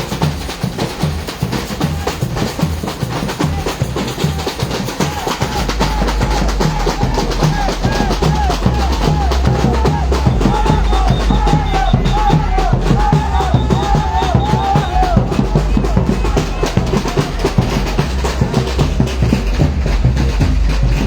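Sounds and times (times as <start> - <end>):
samba percussion ensemble drumming: 0.0 - 21.0.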